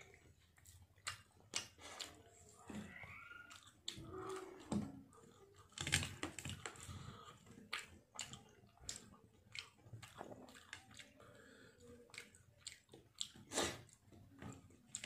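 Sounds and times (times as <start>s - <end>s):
chewing and lip smacks: 0.0s - 2.6s, 3.3s - 15.0s.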